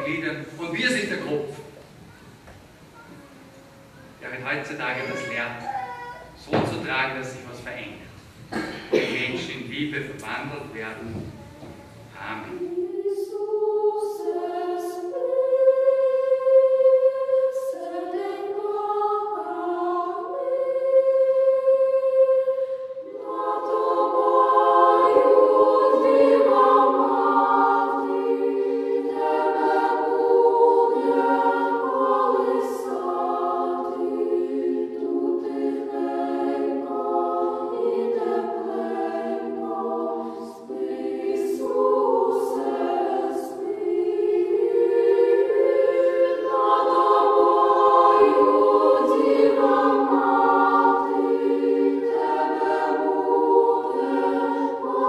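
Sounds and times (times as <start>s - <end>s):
choir singing a hymn: 0.0s - 1.8s, 4.2s - 55.0s.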